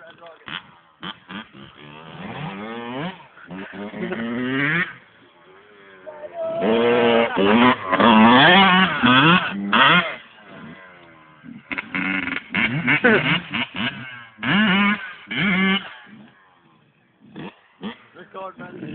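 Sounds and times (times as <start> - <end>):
motocross bike engine revving: 0.0 - 18.9.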